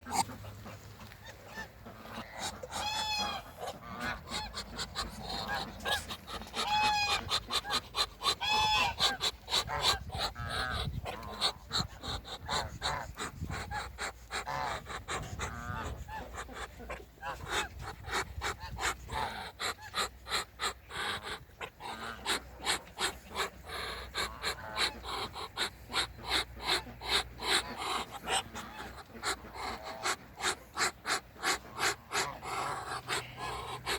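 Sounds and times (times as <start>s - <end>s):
waterfowl honking: 0.0s - 33.9s.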